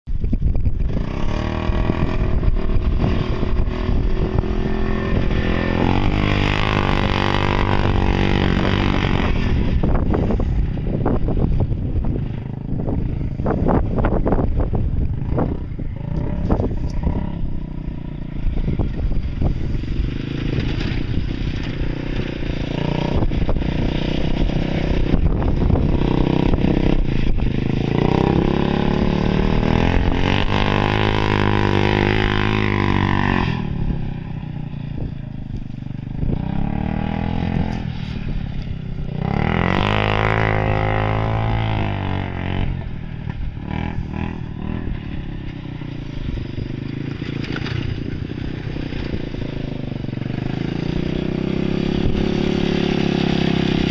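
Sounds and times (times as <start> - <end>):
golf cart engine running: 0.1 - 53.9.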